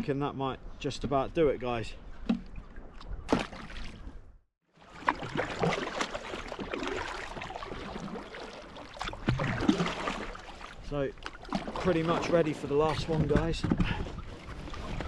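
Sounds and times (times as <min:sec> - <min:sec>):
water lapping against kayak hull: 0:02.1 - 0:15.0.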